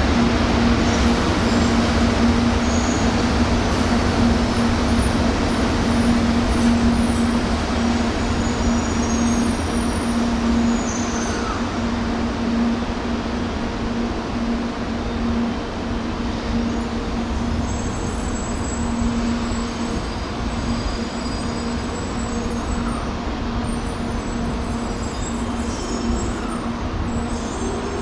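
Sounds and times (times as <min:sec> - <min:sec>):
high-speed train rushing: 0:00.0 - 0:28.0.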